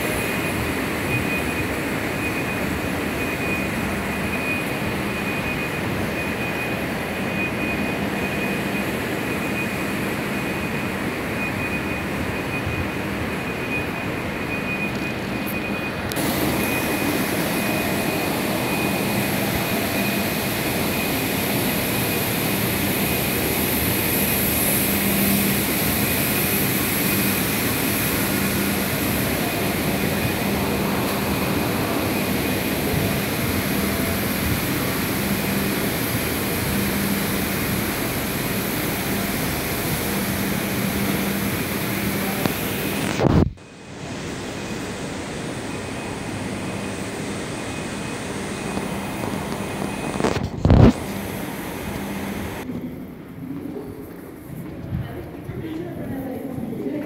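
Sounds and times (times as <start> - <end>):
high steady whine: 0.0 - 54.8.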